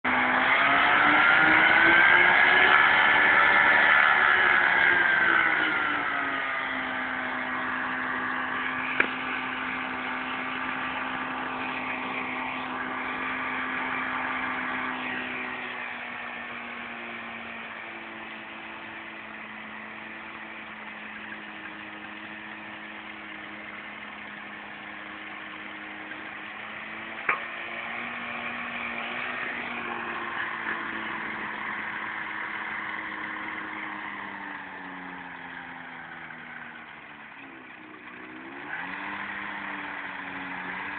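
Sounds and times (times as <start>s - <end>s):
engine and propeller droning: 0.0s - 40.9s.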